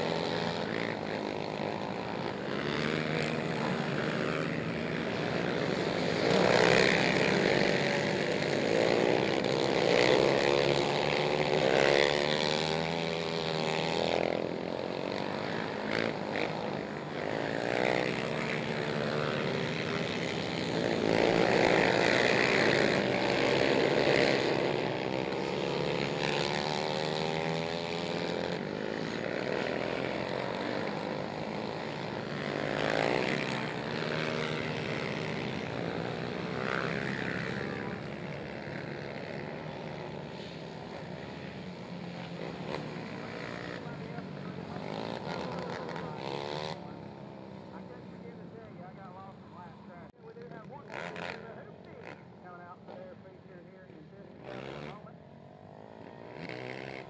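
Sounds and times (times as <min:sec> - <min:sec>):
quad engines revving: 0:00.0 - 0:57.0.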